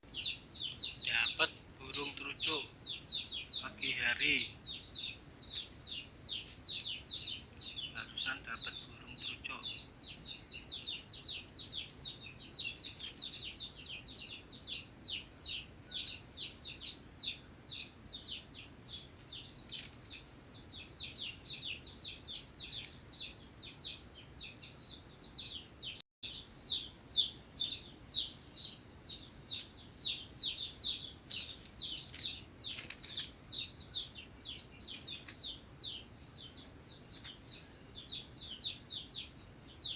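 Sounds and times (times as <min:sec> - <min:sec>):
birds calling high downward notes: 0:00.0 - 0:39.9.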